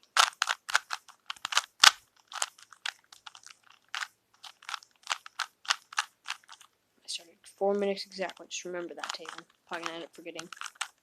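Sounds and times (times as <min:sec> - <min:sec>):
puzzle cube clicking as turned: 0:00.0 - 0:06.7, 0:08.0 - 0:11.0.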